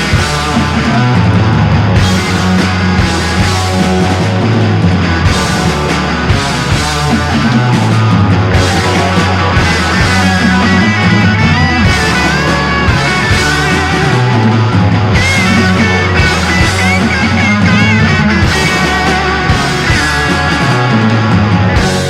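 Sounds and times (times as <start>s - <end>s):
electric guitar: 0.0s - 22.0s
rock music: 0.0s - 22.0s
steady bass line: 0.0s - 22.0s.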